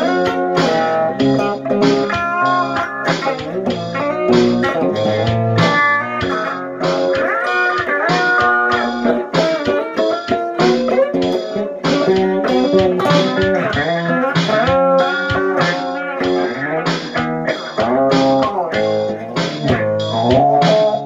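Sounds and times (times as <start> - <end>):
plucked guitar-like melody: 0.0 - 21.0
steady quick beat: 0.0 - 21.0.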